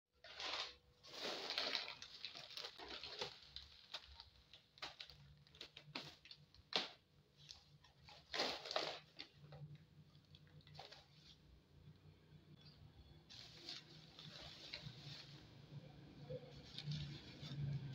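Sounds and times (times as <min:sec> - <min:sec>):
plastic bags rustling: 0:00.2 - 0:11.5, 0:13.3 - 0:17.9.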